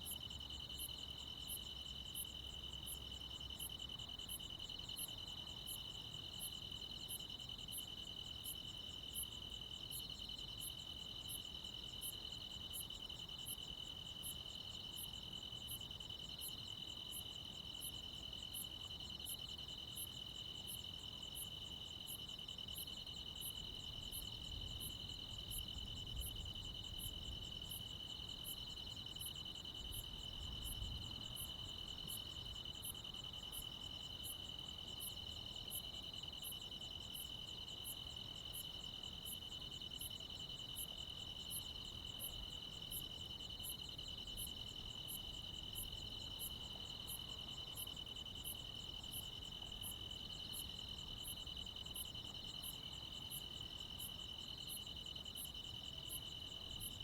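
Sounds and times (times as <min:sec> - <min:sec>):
high insect chirp: 0:00.0 - 0:57.0.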